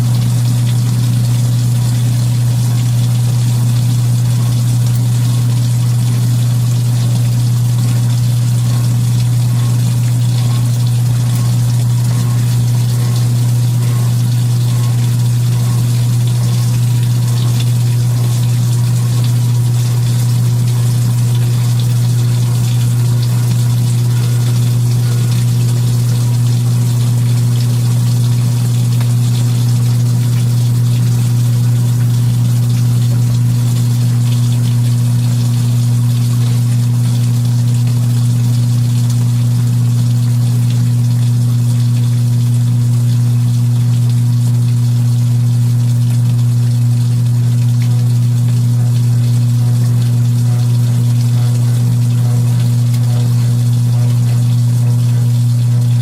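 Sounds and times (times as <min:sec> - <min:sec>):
washing machine motor hum: 0:00.0 - 0:56.0
water churning and pumping: 0:00.0 - 0:56.0.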